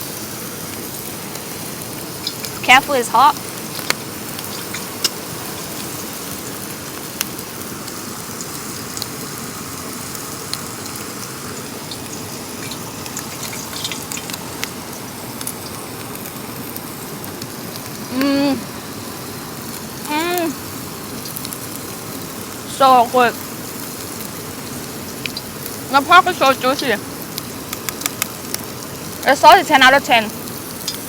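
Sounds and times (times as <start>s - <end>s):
rain: 0.0s - 31.0s
small ticks and crackles: 0.0s - 31.0s.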